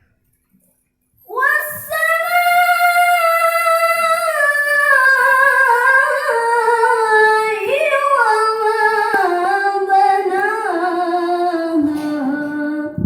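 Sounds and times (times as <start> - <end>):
woman reciting melodically: 1.2 - 13.0.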